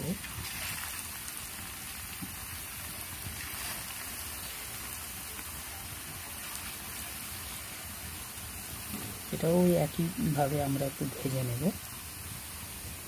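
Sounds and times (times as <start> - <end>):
oil sizzling around frying fritters: 0.0 - 13.0.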